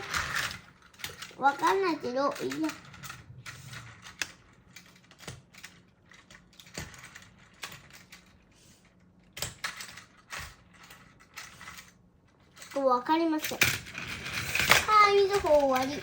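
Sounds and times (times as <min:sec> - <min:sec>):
plastic toy trains clicking: 0:00.0 - 0:16.0.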